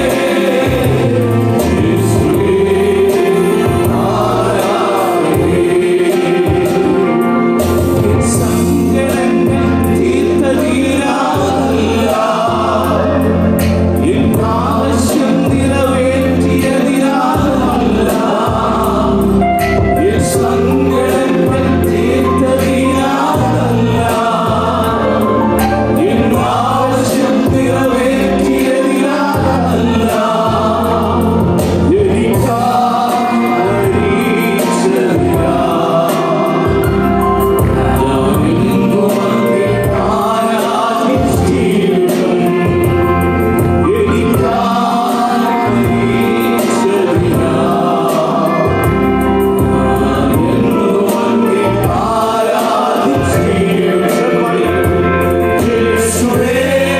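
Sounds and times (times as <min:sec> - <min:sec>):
men singing gospel song: 0:00.0 - 0:56.9
musical accompaniment: 0:00.0 - 0:56.9.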